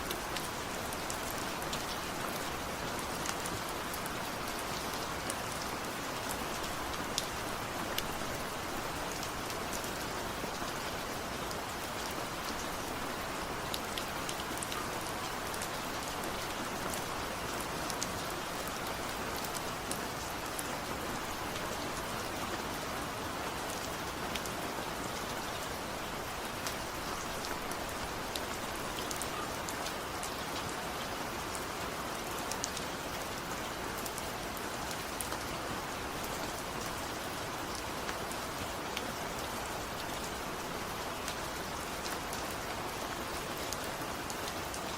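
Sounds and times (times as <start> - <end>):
rain pattering on hard surface: 0.0 - 44.9.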